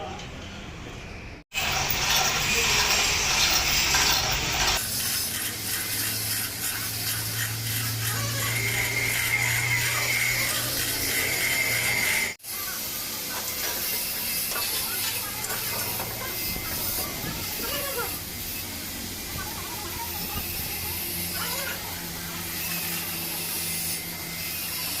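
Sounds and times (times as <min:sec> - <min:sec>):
hissing clatter of machinery: 0:01.6 - 0:25.0.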